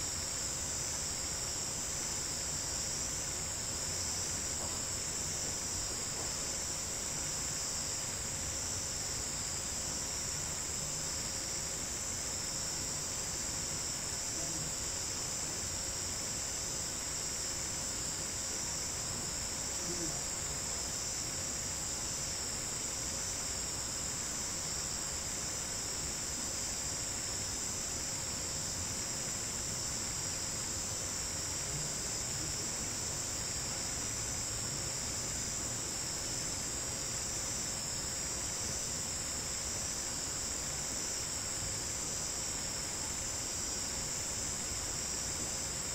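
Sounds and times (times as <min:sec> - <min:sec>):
night insects trilling: 0:00.0 - 0:45.9.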